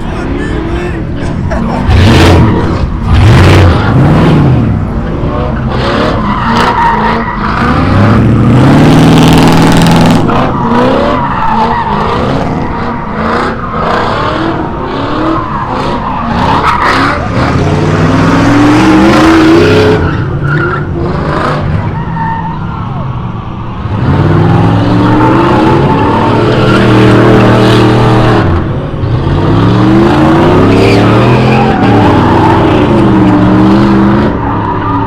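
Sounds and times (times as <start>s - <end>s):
car engines revving: 0.0s - 35.0s
tires squealing on pavement: 0.0s - 35.0s.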